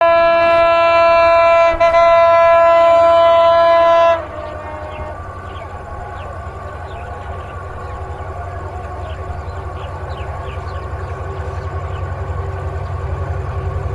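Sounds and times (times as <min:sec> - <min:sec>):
train horn blast: 0:00.0 - 0:11.8
train running rumble: 0:00.0 - 0:13.9.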